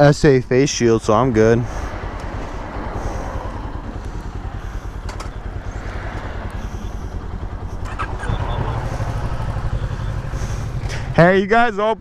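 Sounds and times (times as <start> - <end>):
motorcycle engine running: 1.0 - 12.0.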